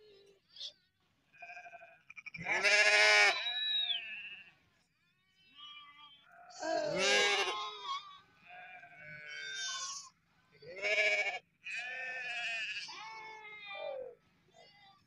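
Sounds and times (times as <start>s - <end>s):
sheep and lambs bleating: 0.6s - 4.6s, 5.5s - 15.0s.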